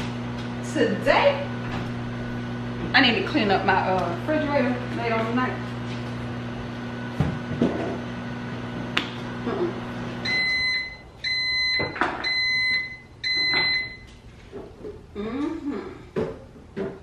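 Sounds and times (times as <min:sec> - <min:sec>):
range hood fan humming: 0:00.0 - 0:17.0.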